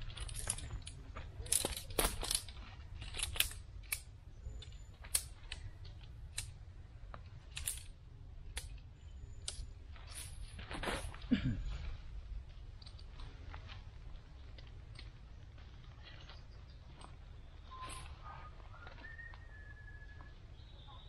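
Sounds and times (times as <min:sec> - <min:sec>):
tent pole sections clicking: 0:00.0 - 0:19.5.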